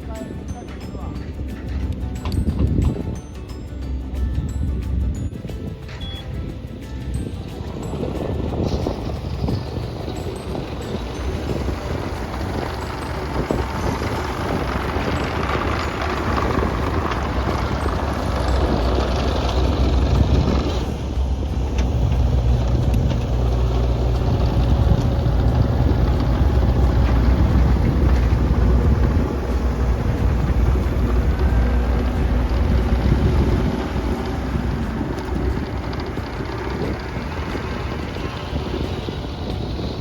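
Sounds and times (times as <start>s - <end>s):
excavator diesel engine running: 0.0s - 40.0s
excavator working crushed stone: 4.3s - 40.0s.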